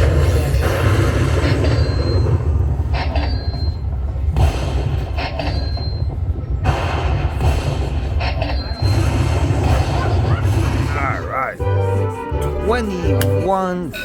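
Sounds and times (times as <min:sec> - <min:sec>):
slot machine rumble: 0:00.0 - 0:14.0.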